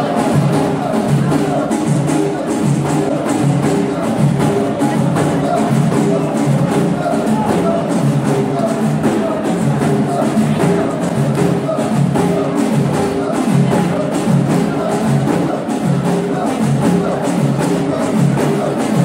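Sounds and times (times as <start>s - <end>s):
frame drums beating: 0.0s - 19.0s
men singing together: 0.0s - 19.0s.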